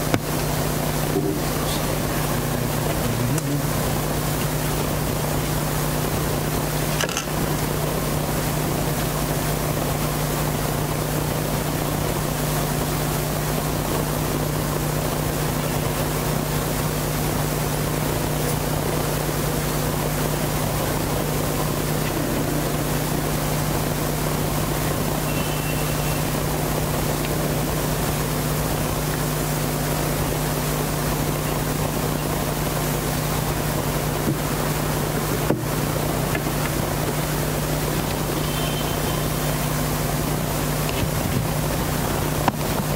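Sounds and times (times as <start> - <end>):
low hum: 0.0 - 13.3, 17.8 - 42.3
even hiss: 0.0 - 42.9.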